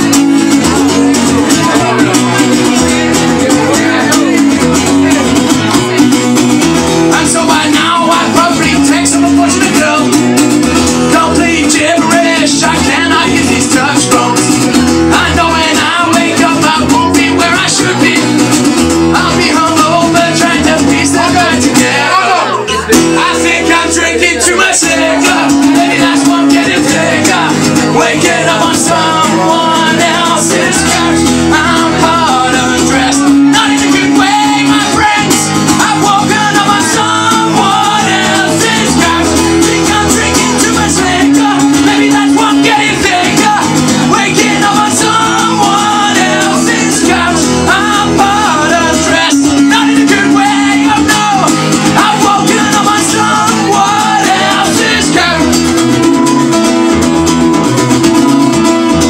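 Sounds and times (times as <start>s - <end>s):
man singing loudly into a microphone: 0.0s - 56.7s
acoustic guitar strumming: 0.0s - 59.0s.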